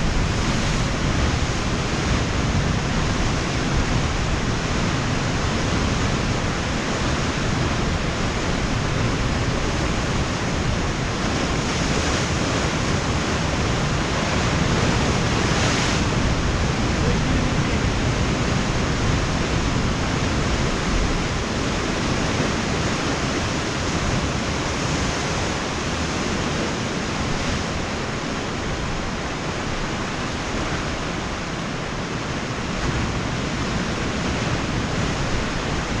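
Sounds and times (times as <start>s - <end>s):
waves breaking with low rumble: 0.0s - 36.0s.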